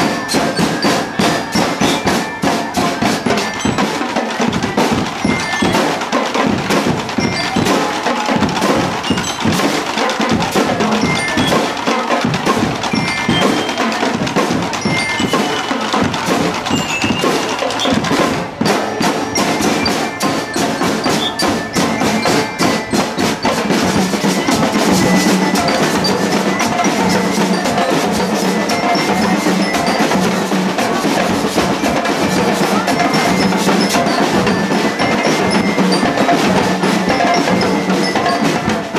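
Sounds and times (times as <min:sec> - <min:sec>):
bell lyre melody: 0:00.0 - 0:06.1, 0:12.6 - 0:38.9
bass drums and snare drums: 0:00.0 - 0:38.9.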